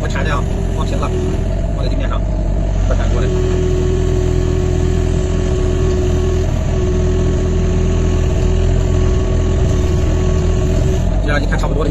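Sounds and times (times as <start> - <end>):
constant hum: 0.0 - 11.9
excavator diesel engine rumbling: 0.0 - 11.9.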